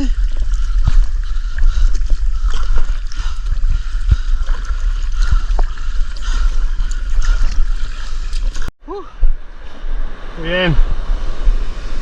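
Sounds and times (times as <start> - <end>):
heavy low rumble: 0.0 - 12.0
water rushing and gurgling: 0.0 - 12.0.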